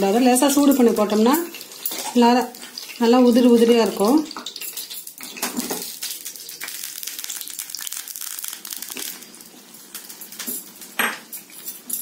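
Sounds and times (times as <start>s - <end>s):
hot ghee sizzling on food: 0.0s - 11.9s.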